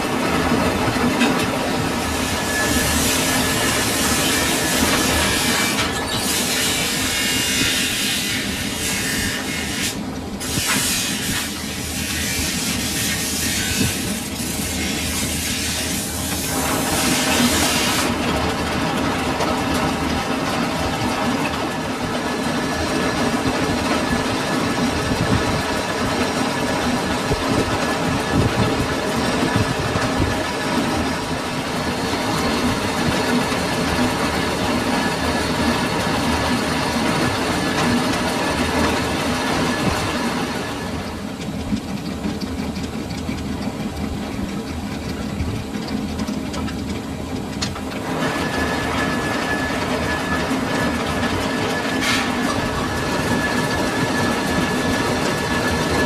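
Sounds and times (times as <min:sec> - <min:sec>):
metalworking lathe running: 0:00.0 - 0:56.0.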